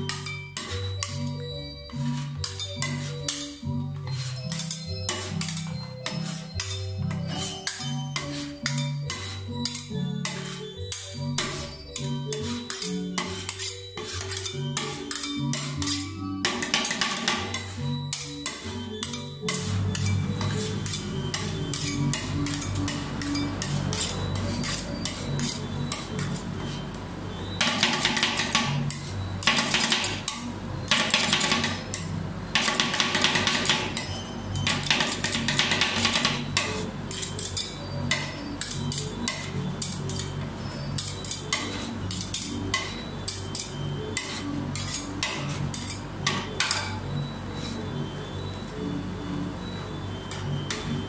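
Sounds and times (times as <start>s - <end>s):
metal spatulas tapping: 0.0s - 26.8s, 27.6s - 47.0s
spatulas scraping metal plate: 0.0s - 48.2s
background music: 0.0s - 51.0s.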